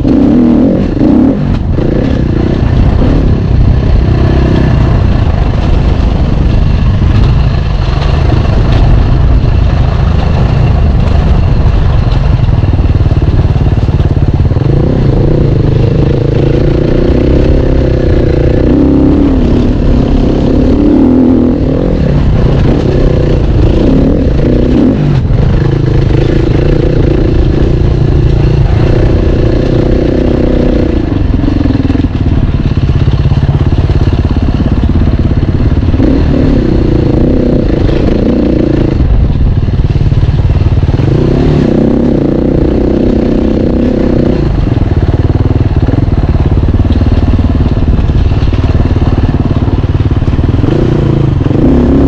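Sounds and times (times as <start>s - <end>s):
dirt bike engine revving: 0.0s - 52.0s
rumble on microphone: 0.0s - 52.0s
bike rattling: 0.8s - 52.0s.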